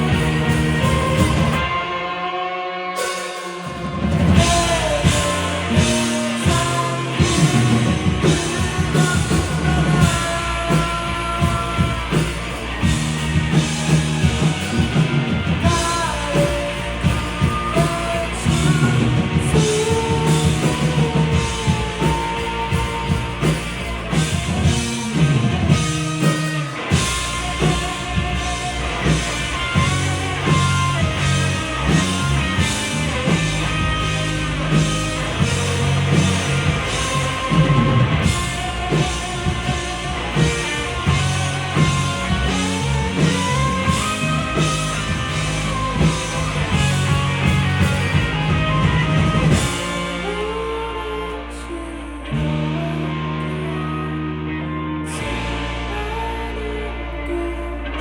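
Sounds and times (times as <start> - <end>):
drum kit: 0.0 - 51.1
bass guitar: 0.0 - 58.0
electric guitar: 0.0 - 58.0
person singing: 0.0 - 58.0.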